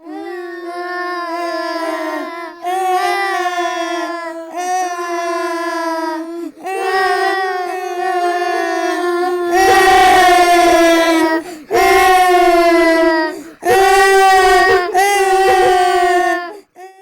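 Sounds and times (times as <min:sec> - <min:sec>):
small girls crying: 0:00.0 - 0:17.0.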